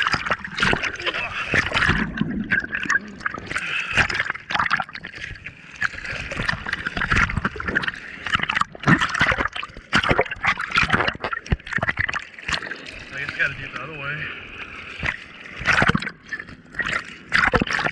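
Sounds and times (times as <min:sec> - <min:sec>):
seawater splashing and sloshing: 0:00.0 - 0:17.9
water gurgling: 0:00.0 - 0:17.9.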